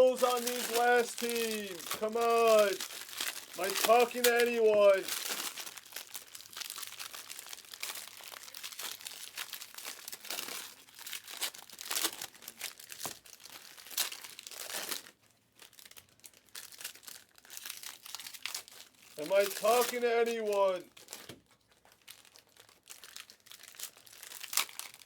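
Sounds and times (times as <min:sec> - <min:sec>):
foil wrappers crinkling: 0:00.0 - 0:25.0.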